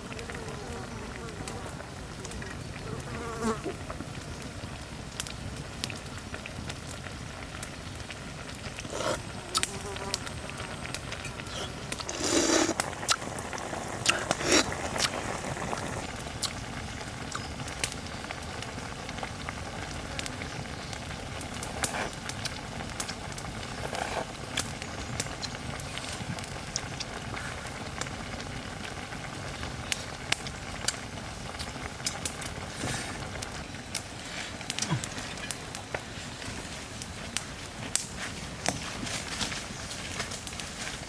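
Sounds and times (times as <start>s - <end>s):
sharp crackles and clicks: 3.8s - 41.0s
steady hiss: 5.5s - 41.0s.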